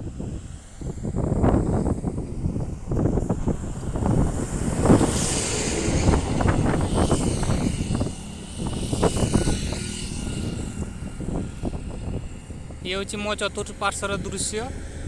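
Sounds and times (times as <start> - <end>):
highway traffic: 0.0 - 15.0
wind rumble on microphone: 0.0 - 15.0.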